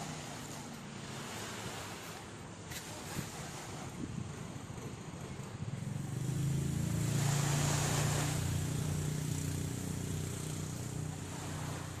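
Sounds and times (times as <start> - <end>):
water wash: 0.0 - 12.0.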